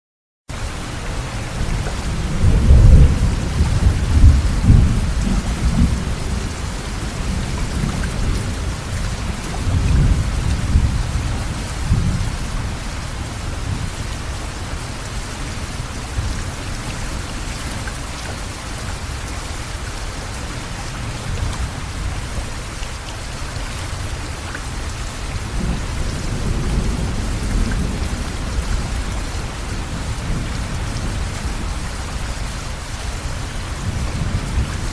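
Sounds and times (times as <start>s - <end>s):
river rushing in flood: 0.5s - 34.9s.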